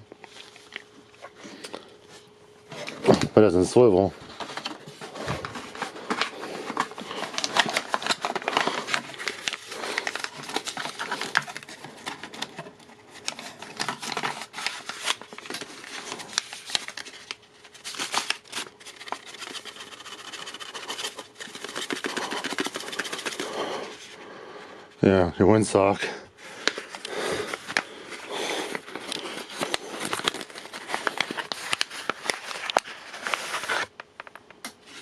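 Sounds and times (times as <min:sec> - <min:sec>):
packaging crinkling and rustling: 0:02.7 - 0:24.1, 0:26.5 - 0:35.0.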